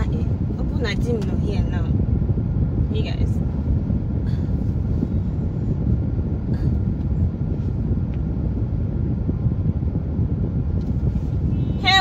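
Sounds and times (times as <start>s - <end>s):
low rumble of vehicle noise: 0.0s - 12.0s.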